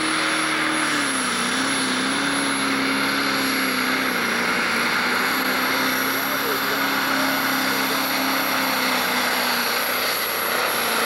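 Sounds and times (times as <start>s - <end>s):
diesel engine at full power: 0.0s - 11.0s
high turbo whine: 0.0s - 11.0s.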